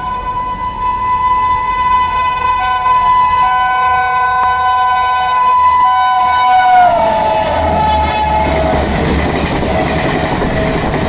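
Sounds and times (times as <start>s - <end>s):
locomotive air horn blast: 0.0s - 9.0s.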